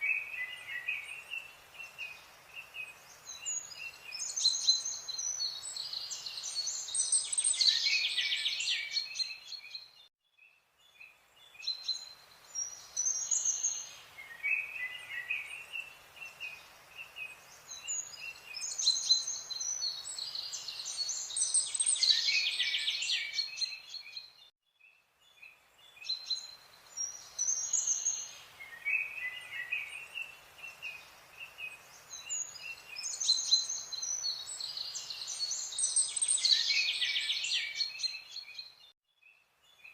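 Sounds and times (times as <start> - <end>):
birds chirping and singing: 0.0 - 10.0, 11.4 - 24.5, 25.3 - 38.9.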